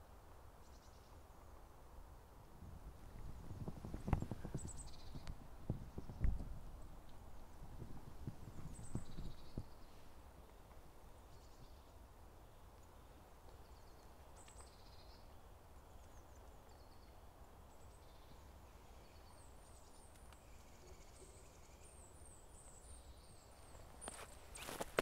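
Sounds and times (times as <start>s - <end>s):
small birds chirping: 3.1s - 25.0s.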